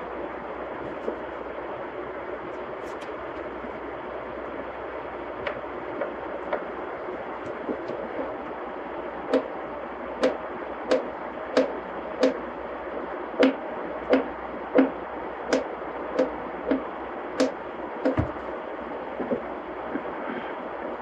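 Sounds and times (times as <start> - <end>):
steady whirring hum: 0.0 - 21.0.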